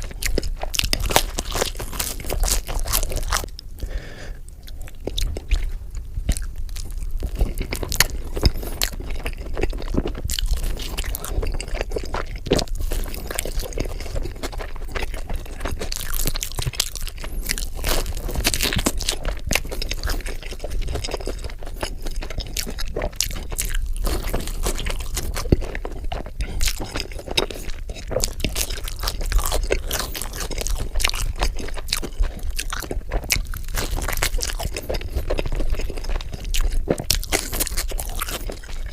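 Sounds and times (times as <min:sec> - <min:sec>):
pizza being bitten and chewed: 0:00.0 - 0:38.9.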